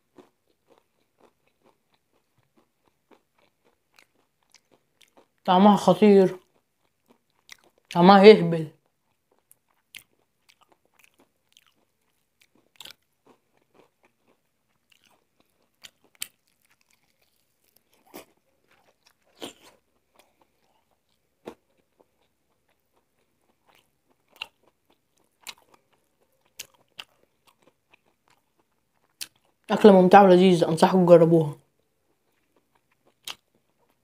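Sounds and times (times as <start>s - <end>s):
fried chicken crunching: 0.0s - 5.5s, 6.3s - 8.0s, 8.8s - 29.7s, 31.7s - 34.0s.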